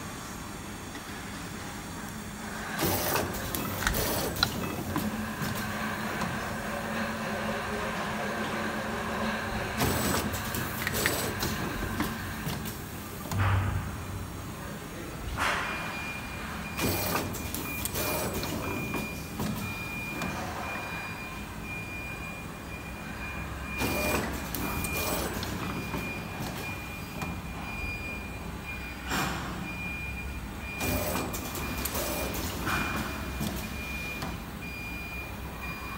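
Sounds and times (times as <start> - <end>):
machine hum with high whine: 0.0 - 35.9.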